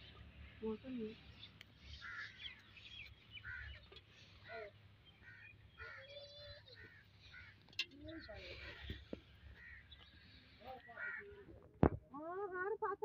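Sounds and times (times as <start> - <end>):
faint crows cawing: 0.0 - 11.7.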